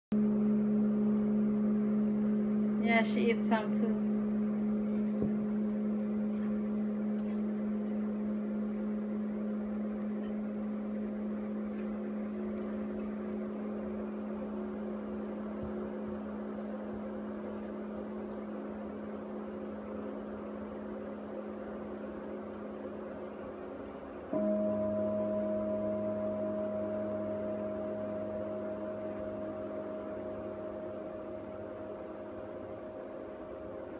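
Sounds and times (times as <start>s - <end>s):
low electrical hum: 0.1s - 33.9s.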